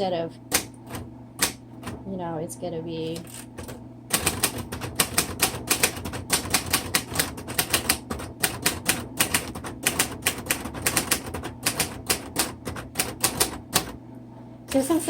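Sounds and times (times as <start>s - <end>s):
manual typewriter typing: 0.5s - 2.0s, 3.1s - 14.0s.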